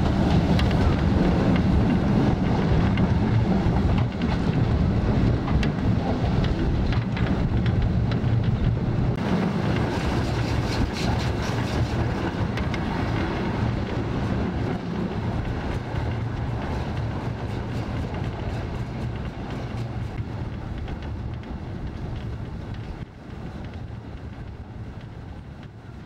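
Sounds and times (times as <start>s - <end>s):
train rumbling on board: 0.0s - 26.0s.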